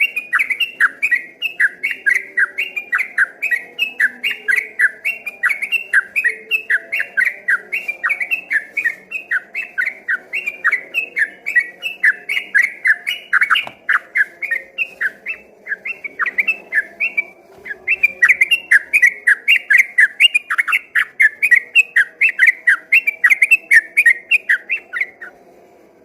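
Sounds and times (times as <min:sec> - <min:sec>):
bird rapid chirping song: 0:00.0 - 0:25.3.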